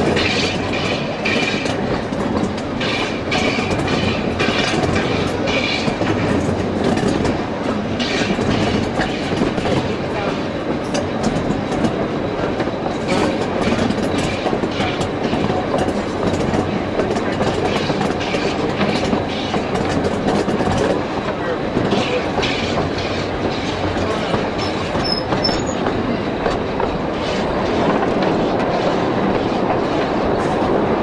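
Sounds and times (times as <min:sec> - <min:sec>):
train wheels clickety-clack: 0:00.0 - 0:31.0.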